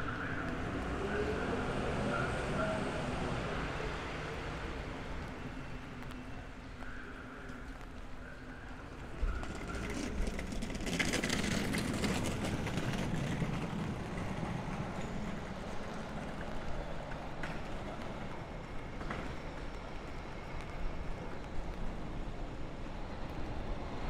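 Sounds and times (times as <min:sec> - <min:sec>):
low hum of traffic: 0:00.0 - 0:24.0.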